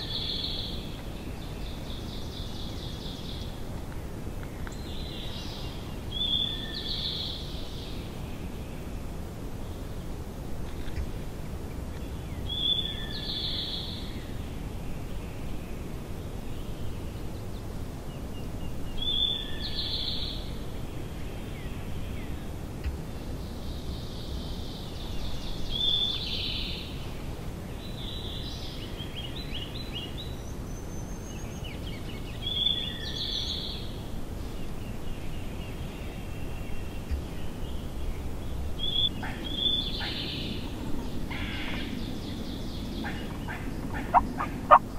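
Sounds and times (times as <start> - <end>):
low outdoor background noise: 0.0 - 44.9
songbird singing: 0.0 - 44.9.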